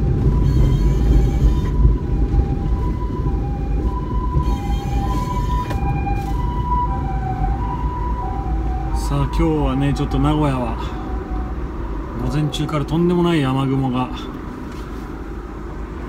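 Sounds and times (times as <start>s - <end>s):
two-tone ambulance siren: 0.0s - 14.3s
engine and road rumble: 0.0s - 16.0s.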